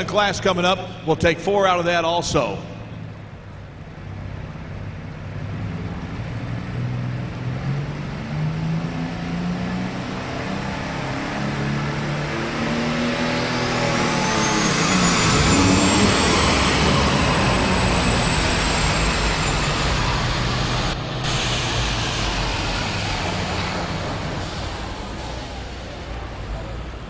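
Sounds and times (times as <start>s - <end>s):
high whine: 0.0s - 27.0s
tractor diesel engine under load: 0.0s - 27.0s.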